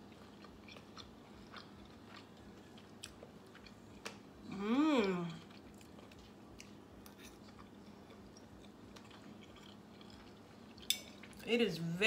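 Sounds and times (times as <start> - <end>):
chewing with wet mouth clicks: 0.0 - 4.3, 5.0 - 11.5
faint low hum: 0.0 - 12.0.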